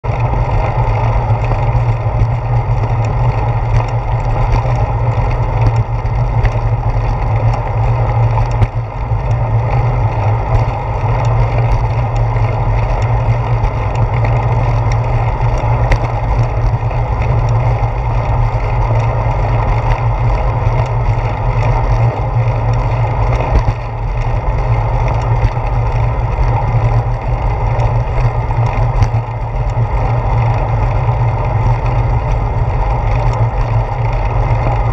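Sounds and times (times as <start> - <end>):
wind rumble: 0.0 - 34.9
bicycle clicks and knocks: 0.1 - 34.9.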